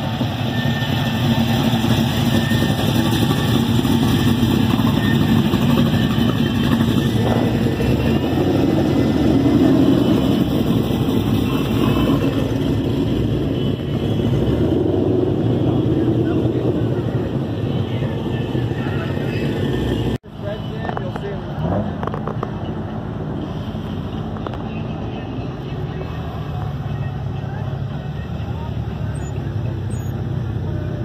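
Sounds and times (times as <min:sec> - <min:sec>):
car engines driving past: 0:00.0 - 0:31.0.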